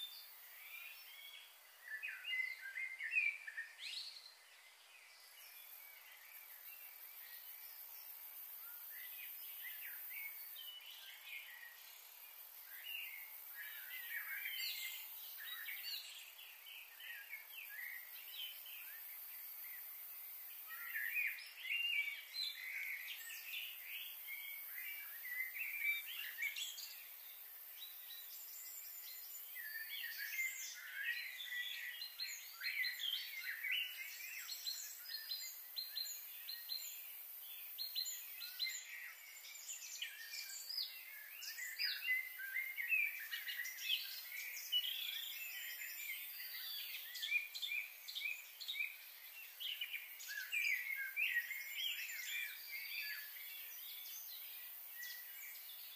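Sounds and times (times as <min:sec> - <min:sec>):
birds chirping chorus: 0:00.0 - 0:55.9.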